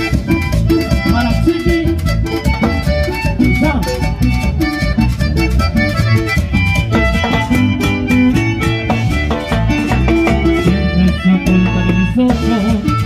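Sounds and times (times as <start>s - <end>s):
acoustic guitar: 0.0s - 13.0s
electric bass: 0.0s - 13.0s
piano accordion melody: 0.0s - 13.0s.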